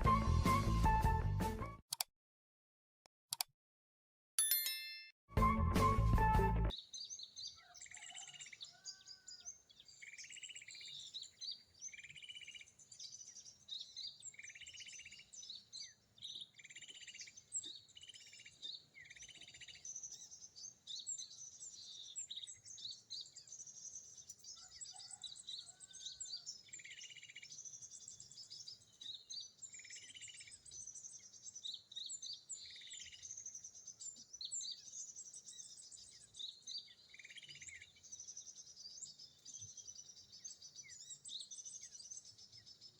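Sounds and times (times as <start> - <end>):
small birds chirping and trilling: 6.7 - 42.9.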